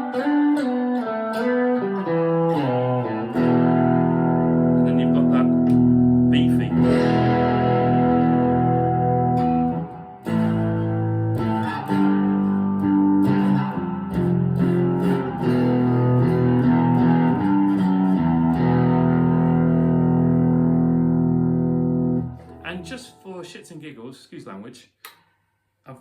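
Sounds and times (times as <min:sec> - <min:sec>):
electric guitar through amplifier: 0:00.0 - 0:23.2.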